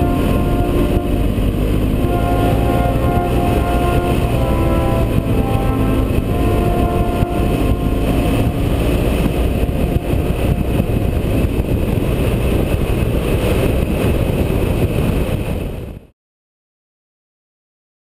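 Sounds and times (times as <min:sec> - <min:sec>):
motorcycle engine: 0:00.0 - 0:14.8
wind rumble on microphone: 0:00.0 - 0:16.1.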